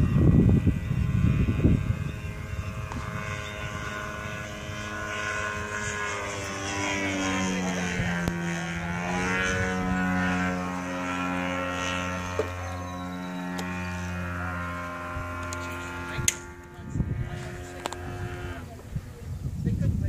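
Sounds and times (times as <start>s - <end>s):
model airplane engine and propeller: 0.0s - 20.0s.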